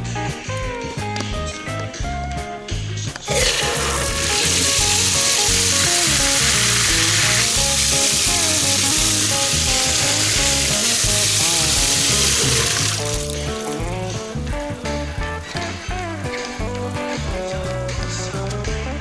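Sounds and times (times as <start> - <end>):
background music with beat: 0.0 - 19.0.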